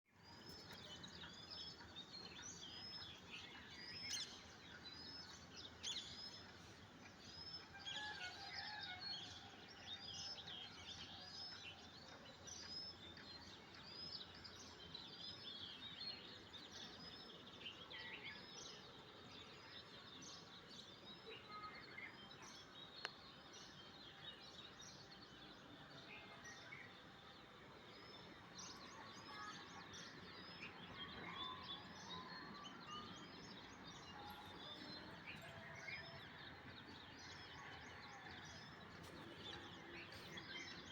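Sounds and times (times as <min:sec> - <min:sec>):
low outdoor background noise: 0:00.0 - 0:40.9.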